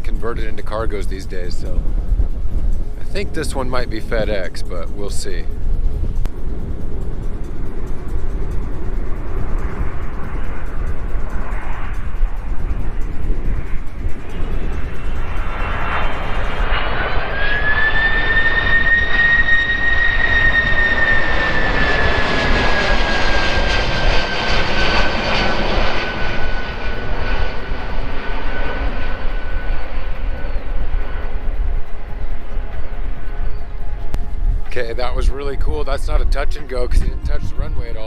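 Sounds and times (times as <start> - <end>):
jet engine whine: 0.0 - 38.0
jet noise rush: 0.0 - 38.0
wind rumbling on microphone: 0.0 - 38.0.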